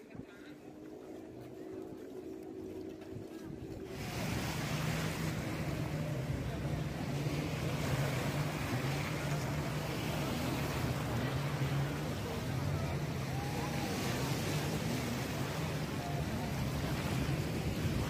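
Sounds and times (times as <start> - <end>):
engine humming: 0.2 - 18.0.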